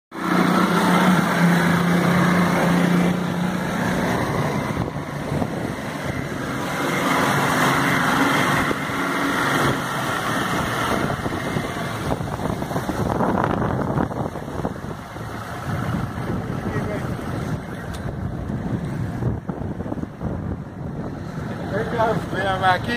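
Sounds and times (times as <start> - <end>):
outboard motor running: 0.1 - 22.9
water rushing past hull: 0.1 - 22.9
wind on microphone: 1.6 - 22.9.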